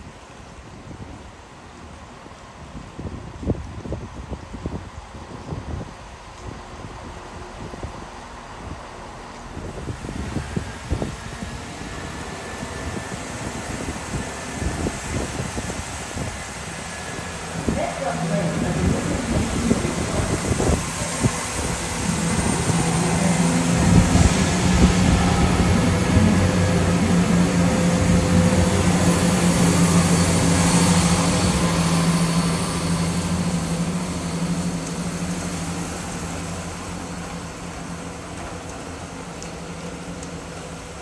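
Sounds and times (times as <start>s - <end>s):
diesel train engine drone: 0.0s - 41.0s
wheel and rail noise: 0.0s - 41.0s.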